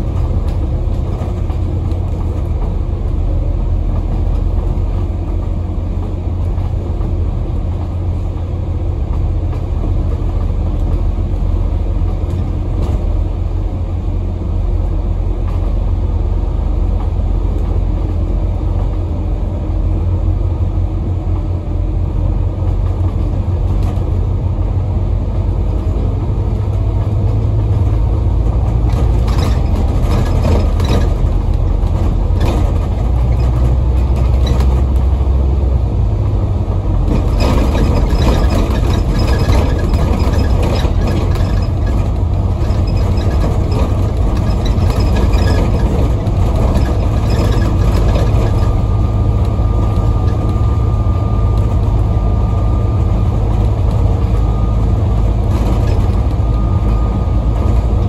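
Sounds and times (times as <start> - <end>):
bus body rattles: 0.0 - 58.0
diesel bus engine running: 0.0 - 58.0
road noise: 0.0 - 58.0.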